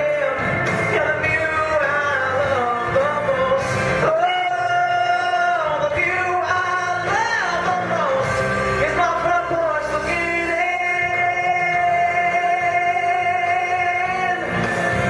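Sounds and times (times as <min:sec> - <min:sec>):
man singing a country ballad: 0:00.0 - 0:14.6
instrumental accompaniment: 0:00.0 - 0:15.0.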